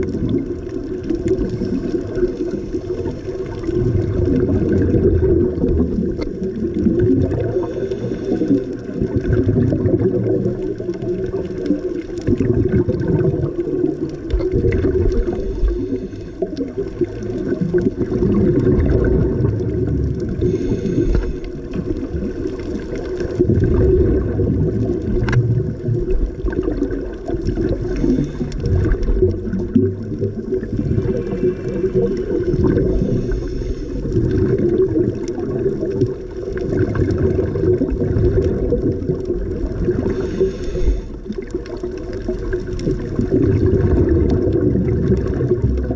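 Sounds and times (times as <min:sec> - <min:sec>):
underwater air bubbles gurgling: 0:00.0 - 0:45.9.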